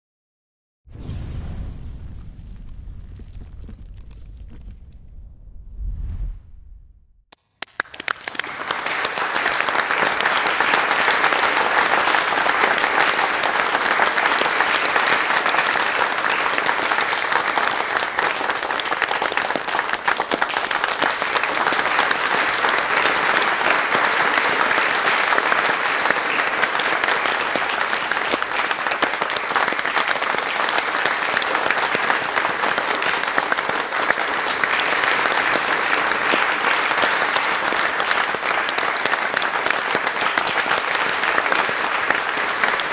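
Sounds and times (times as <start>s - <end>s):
audience applause: 7.4s - 42.9s.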